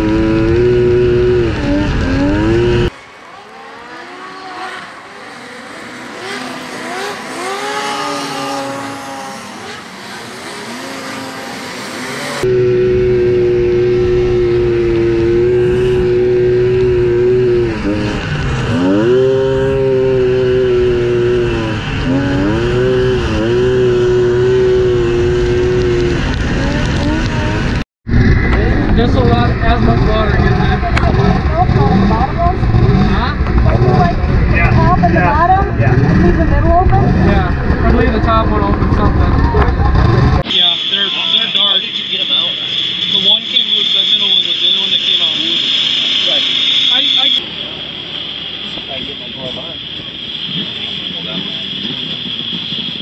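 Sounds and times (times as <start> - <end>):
snowmobile engine at high revs: 0.0 - 53.0
snowmobile engines passing: 0.0 - 53.0.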